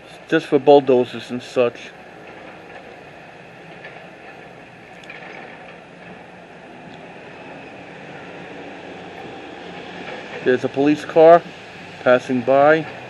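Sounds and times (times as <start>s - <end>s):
road vehicles rumbling by: 0.0s - 13.0s.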